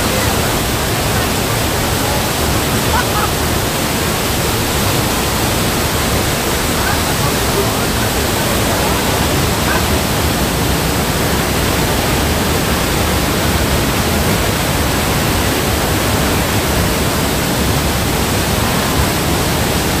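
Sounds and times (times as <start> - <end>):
waterfall crashing: 0.0 - 20.0.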